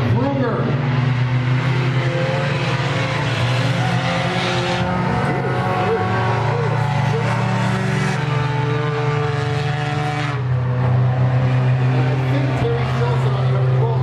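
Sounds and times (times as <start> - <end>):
race car engines: 0.0 - 14.0.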